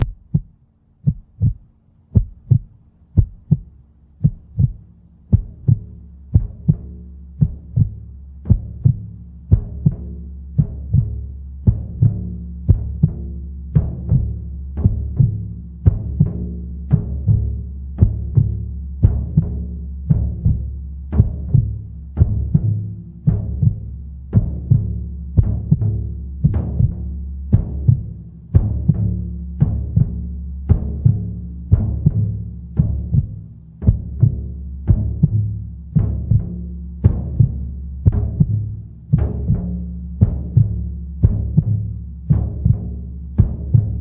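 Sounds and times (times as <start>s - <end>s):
heartbeat: 0.0s - 44.0s
low steady drone: 0.0s - 44.0s
low steady hum: 0.0s - 44.0s.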